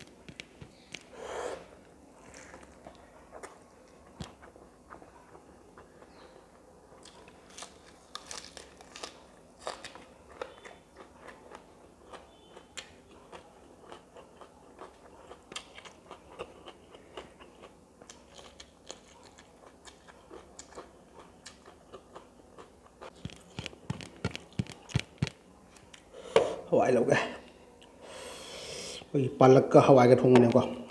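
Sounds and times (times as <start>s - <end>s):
person chewing with crunches: 0.0s - 26.1s.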